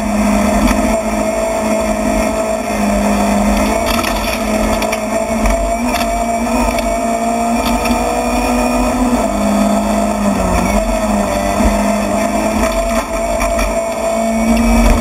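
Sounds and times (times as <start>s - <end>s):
rally car engine under load: 0.0s - 15.0s
road noise: 0.0s - 15.0s.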